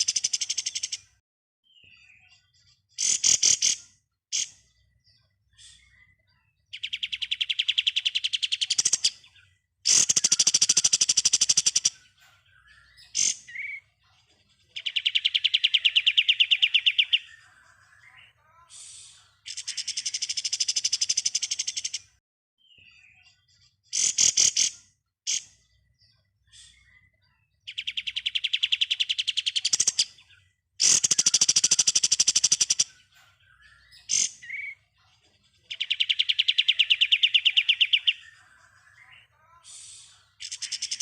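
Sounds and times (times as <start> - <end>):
bird chirps: 0.0 - 41.0.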